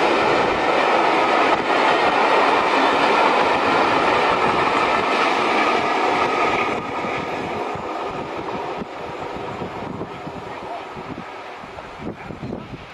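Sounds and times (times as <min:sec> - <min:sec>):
train wheels on rails: 0:00.0 - 0:12.9.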